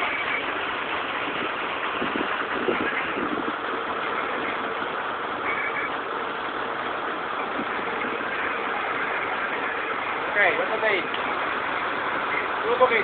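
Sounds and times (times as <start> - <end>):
drill rig engine running: 0.0 - 13.0.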